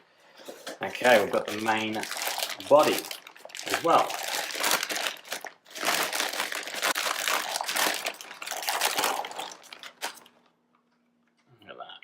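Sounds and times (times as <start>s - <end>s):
packaging crinkling and rustling: 0.5s - 10.6s.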